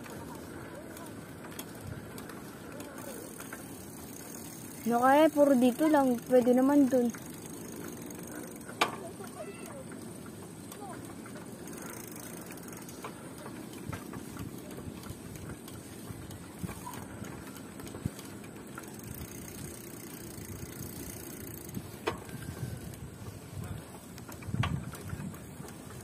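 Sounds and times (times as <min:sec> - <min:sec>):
bike riding rumble: 0:00.0 - 0:26.0.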